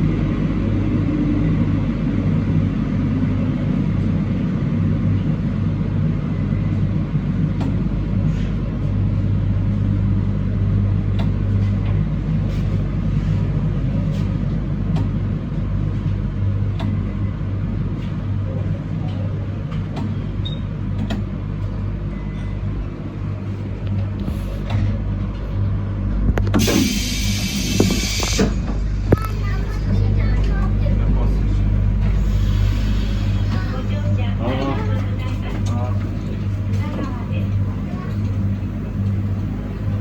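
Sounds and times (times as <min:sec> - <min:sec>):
train hum and rumble: 0:00.0 - 0:40.0.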